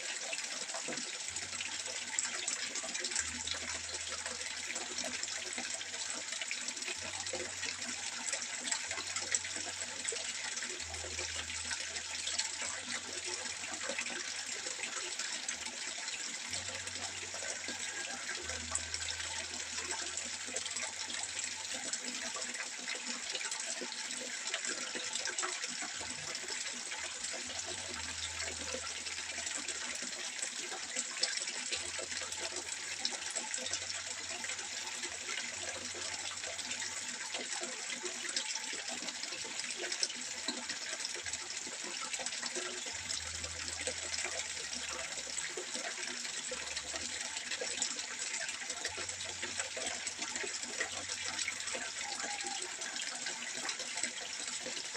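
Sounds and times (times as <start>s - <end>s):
water trickling into a pond: 0.0s - 54.9s.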